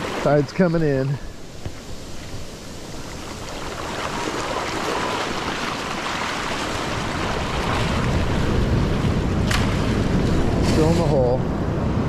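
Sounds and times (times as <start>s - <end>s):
ocean waves washing over sand: 0.0s - 12.0s.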